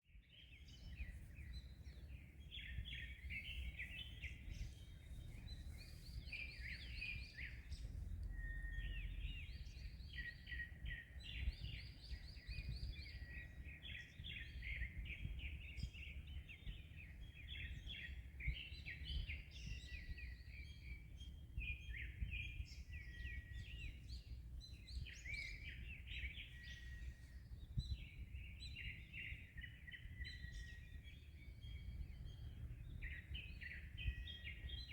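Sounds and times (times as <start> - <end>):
wind: 0.0 - 34.9
birds chirping: 0.3 - 34.9.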